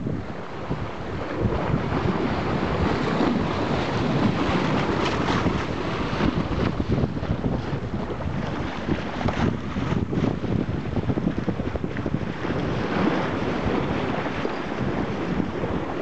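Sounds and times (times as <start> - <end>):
seawater splashing along bow: 0.0 - 16.0
wind buffeting microphone: 0.0 - 16.0.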